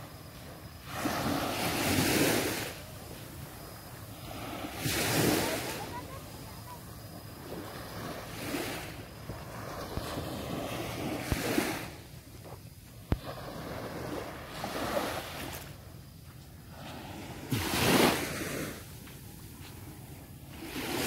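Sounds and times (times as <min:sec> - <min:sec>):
sea waves breaking: 0:00.0 - 0:15.9, 0:16.7 - 0:21.0.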